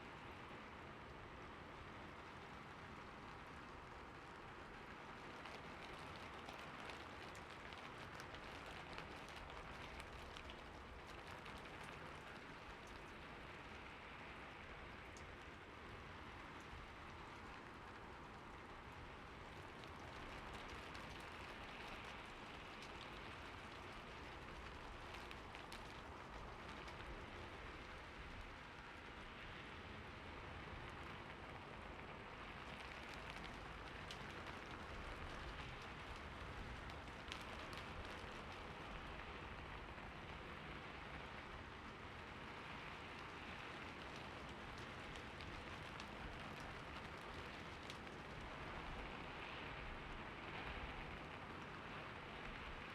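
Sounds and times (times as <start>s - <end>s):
steady rain falling: 0.0s - 52.9s
sharp rain drop ticks: 1.8s - 52.9s.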